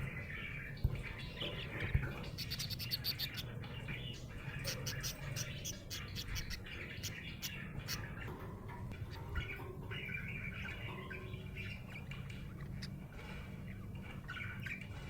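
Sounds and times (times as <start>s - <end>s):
budgerigar chirping and warbling: 0.1s - 14.9s.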